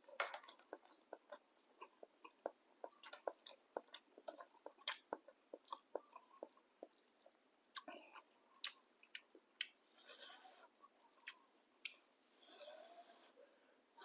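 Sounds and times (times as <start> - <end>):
person chewing noodles: 0.0 - 12.1.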